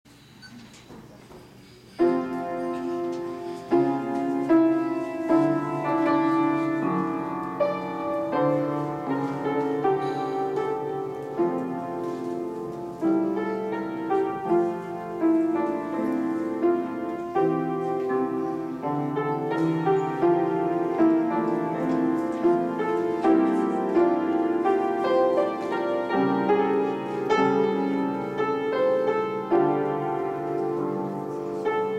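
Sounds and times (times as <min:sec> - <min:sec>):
grand piano playing: 0:02.0 - 0:31.9.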